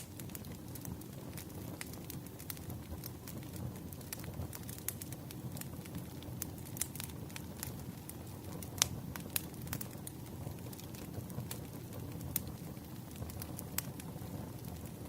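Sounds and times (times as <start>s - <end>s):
burning logs rumbling: 0.0s - 15.0s
sharp pops of fire: 0.0s - 15.0s.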